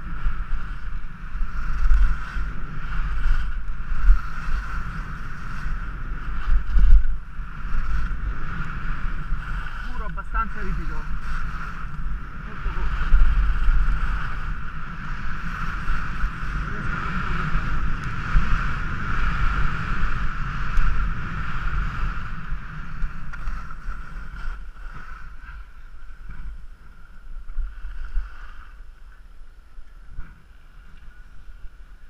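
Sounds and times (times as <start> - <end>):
skis scraping across snow: 0.0 - 32.0
wind rushing over microphone: 0.0 - 32.0.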